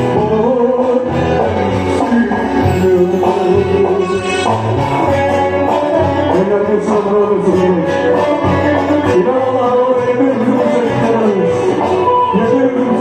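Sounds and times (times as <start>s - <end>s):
person singing: 0.0s - 13.0s
plucked string instrument: 0.0s - 13.0s.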